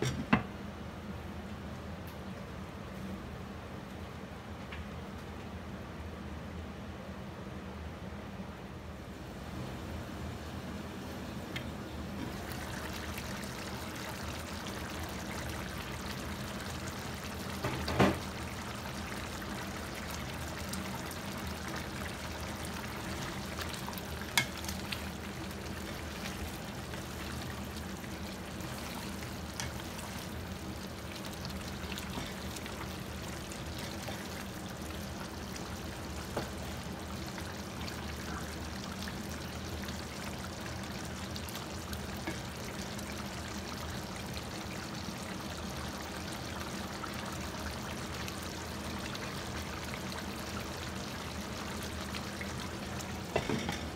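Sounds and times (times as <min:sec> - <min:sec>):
food simmering and sizzling: 0:09.4 - 0:53.9.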